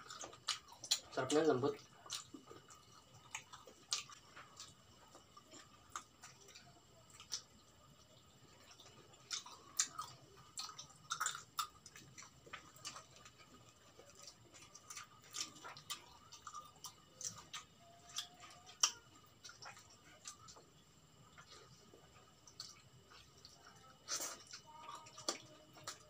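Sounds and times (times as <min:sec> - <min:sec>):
fried chicken crunching: 0:00.0 - 0:26.0
lip smacks and chewing: 0:00.0 - 0:26.0.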